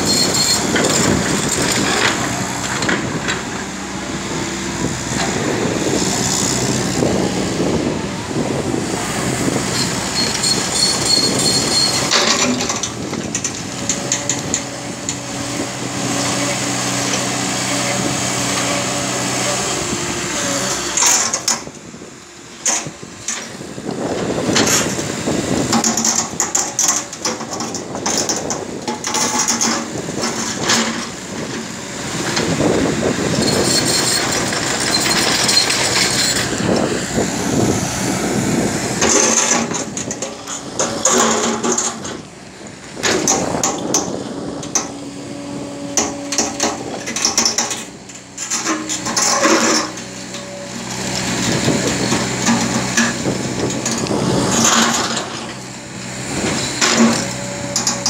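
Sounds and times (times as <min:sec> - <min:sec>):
excavator engine hum: 0:00.0 - 0:58.0.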